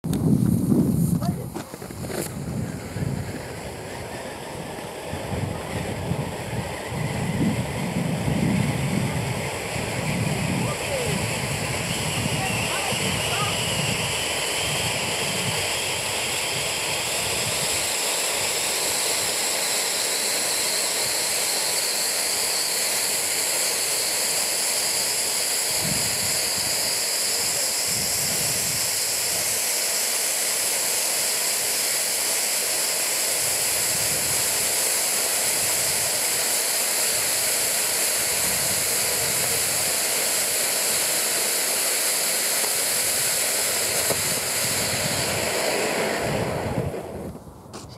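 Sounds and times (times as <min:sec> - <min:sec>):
firework fountain hissing: 0:00.1 - 0:47.3.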